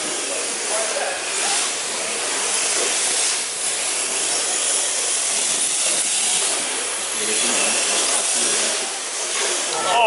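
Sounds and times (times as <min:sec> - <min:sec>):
small electric motors running: 0:00.0 - 0:10.0
toy car tyres scrubbing floor: 0:00.0 - 0:10.0.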